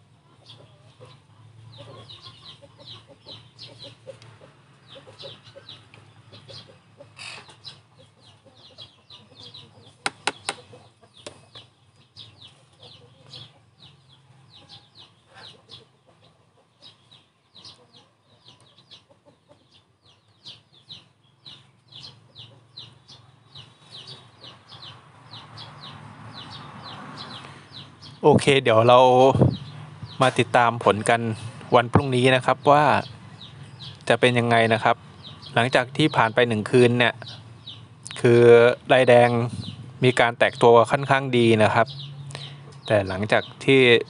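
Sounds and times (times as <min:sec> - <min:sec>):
chickens clucking: 0:00.0 - 0:44.0
chicks peeping: 0:00.0 - 0:44.0.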